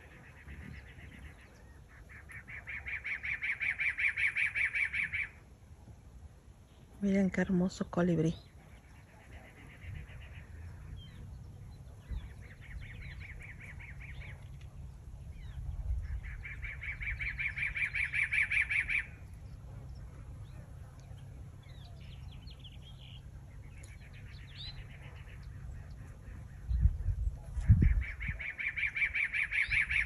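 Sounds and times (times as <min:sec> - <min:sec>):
songbird trilling: 0:00.0 - 0:05.4, 0:08.2 - 0:30.0
low steady rumble: 0:03.9 - 0:30.0.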